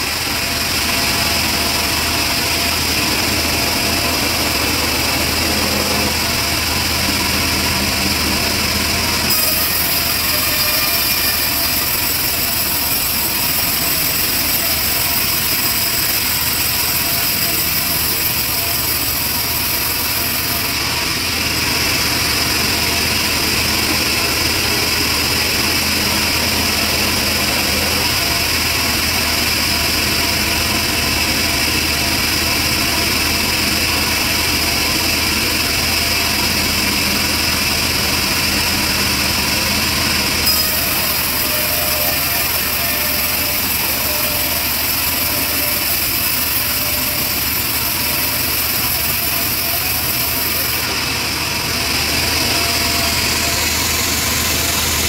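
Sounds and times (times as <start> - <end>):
saw blade cutting wood: 0.0 - 55.0
sawmill drive hum: 0.0 - 55.0.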